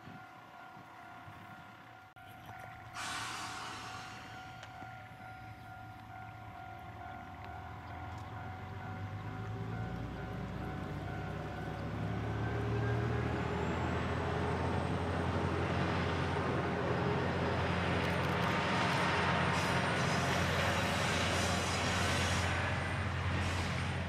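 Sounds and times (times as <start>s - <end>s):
railcar engine drone: 0.0s - 24.0s
wheels on rail: 0.0s - 24.0s.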